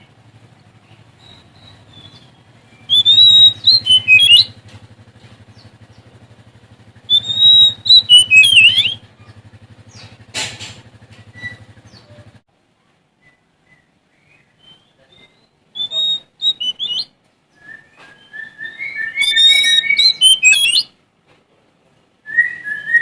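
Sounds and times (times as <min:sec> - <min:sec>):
bird singing: 0:00.0 - 0:10.3, 0:11.1 - 0:12.4, 0:13.2 - 0:20.9.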